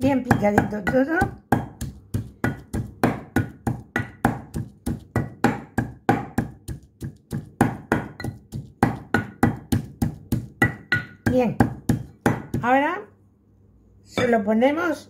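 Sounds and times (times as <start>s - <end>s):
pestle pounding in ceramic mortar: 0.0s - 12.8s.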